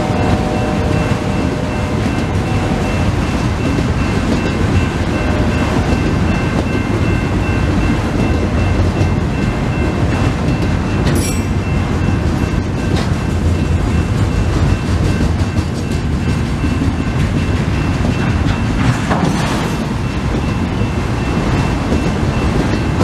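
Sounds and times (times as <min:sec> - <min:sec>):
crossing signal bell ringing: 0:00.0 - 0:19.1, 0:19.7 - 0:23.0
freight train wheels rumbling: 0:00.0 - 0:23.0.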